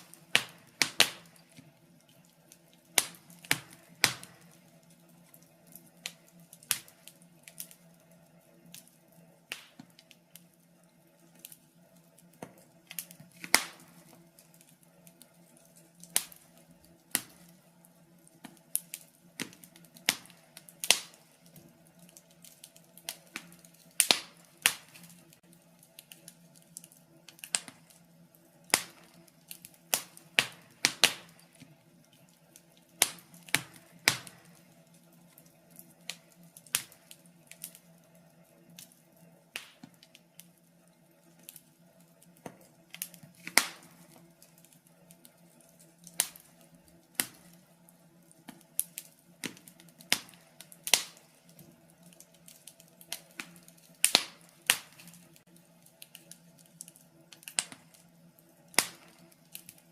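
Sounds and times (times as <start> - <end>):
burning logs popping and snapping: 0.0 - 59.9.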